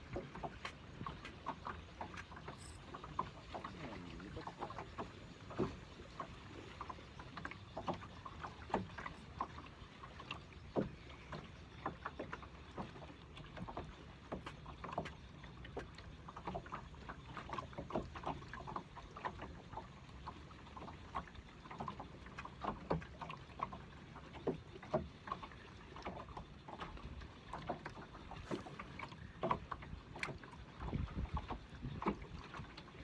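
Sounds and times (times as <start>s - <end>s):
low water wash: 0.0s - 33.0s
small waves lapping: 0.0s - 33.0s.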